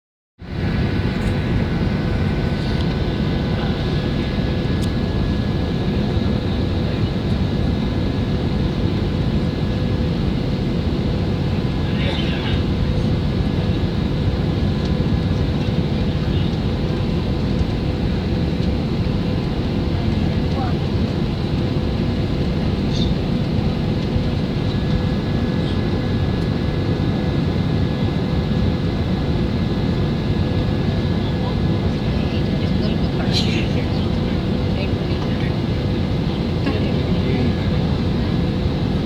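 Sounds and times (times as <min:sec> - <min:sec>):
airplane cabin engine rumble: 0:00.4 - 0:39.0.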